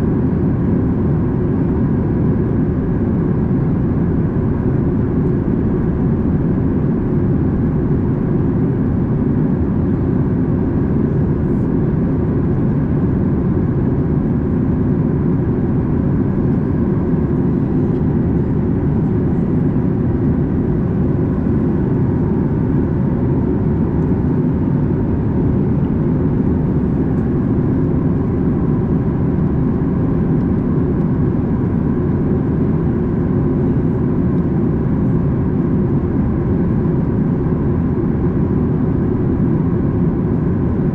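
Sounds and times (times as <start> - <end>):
airplane cabin engine noise: 0.0 - 40.9.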